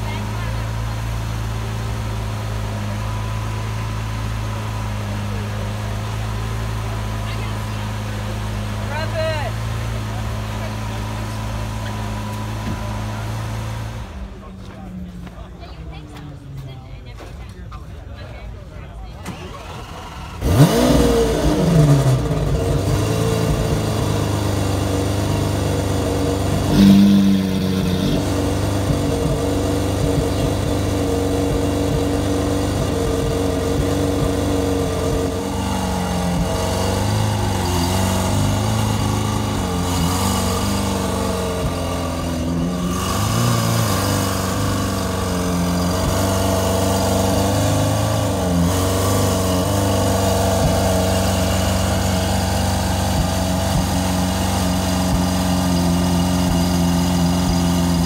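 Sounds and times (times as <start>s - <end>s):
sports car engine idling: 0.0s - 58.0s.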